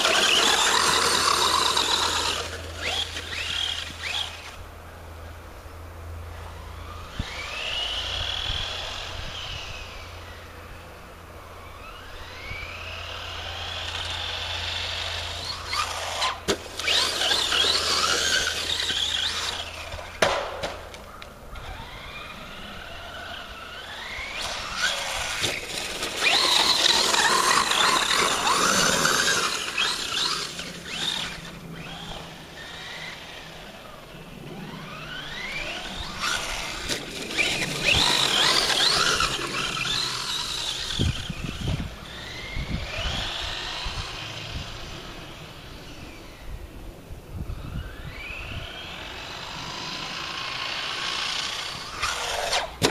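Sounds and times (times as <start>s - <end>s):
rc truck motor whine: 0.0s - 52.9s.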